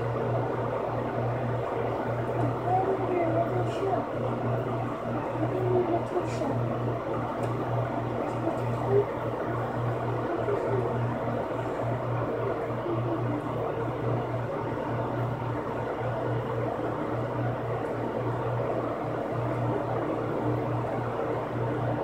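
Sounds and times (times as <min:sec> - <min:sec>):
box fan whirring: 0:00.0 - 0:22.0.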